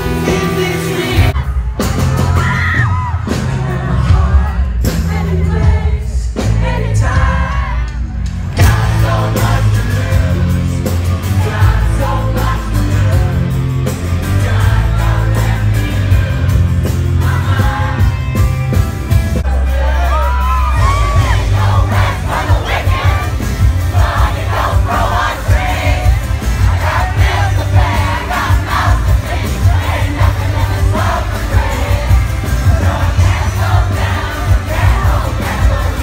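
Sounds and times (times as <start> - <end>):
lead singer's voice: 0.0 - 18.5, 19.4 - 36.0
rock band playing live: 0.0 - 36.0.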